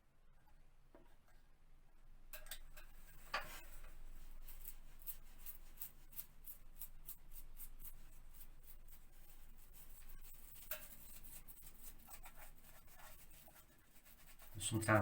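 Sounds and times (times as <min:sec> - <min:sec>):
brush scrubbing wallpaper: 0:03.0 - 0:15.0.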